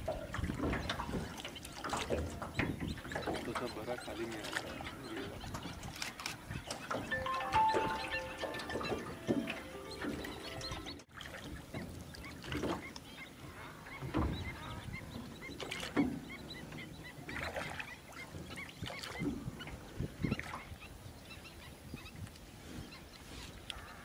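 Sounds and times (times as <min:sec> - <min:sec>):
waterbirds calling: 0:00.0 - 0:24.0.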